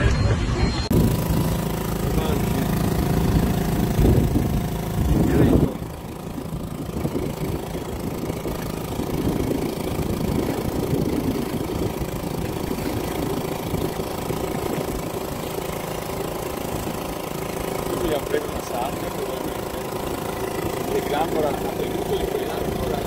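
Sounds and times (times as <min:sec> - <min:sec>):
boat motor idling: 0:00.0 - 0:23.0.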